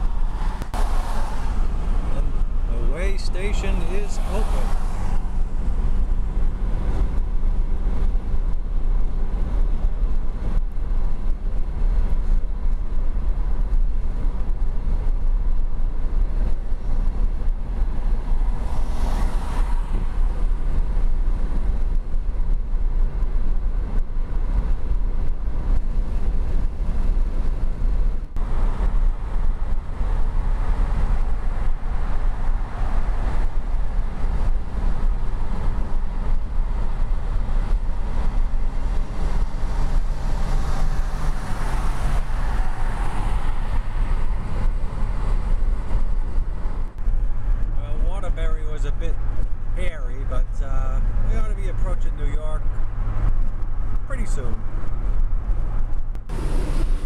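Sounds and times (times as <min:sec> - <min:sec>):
car cabin road and wind noise: 0:00.0 - 0:57.0.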